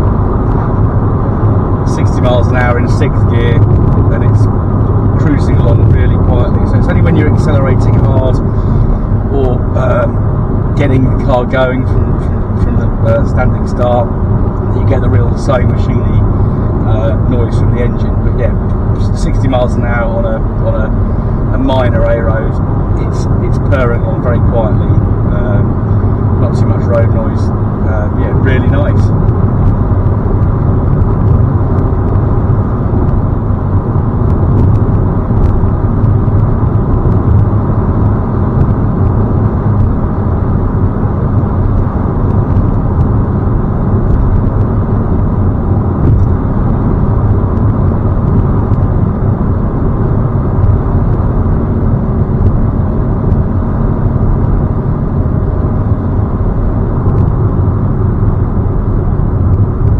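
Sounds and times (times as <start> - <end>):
car engine purring: 0.0 - 59.9
road and tyre noise: 0.0 - 59.9.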